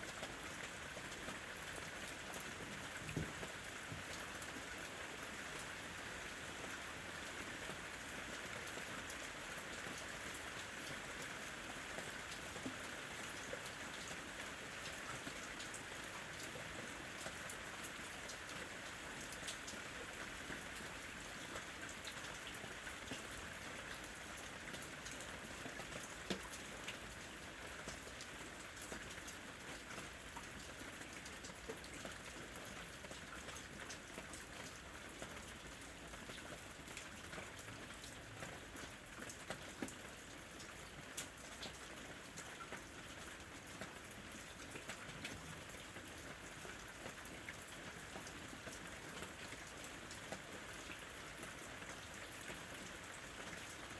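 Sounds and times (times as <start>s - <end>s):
rain pattering on hard surface: 0.0s - 53.9s.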